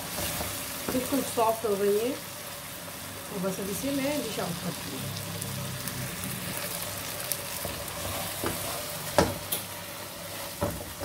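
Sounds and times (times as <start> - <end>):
okra sizzling in a wok: 0.0 - 11.0.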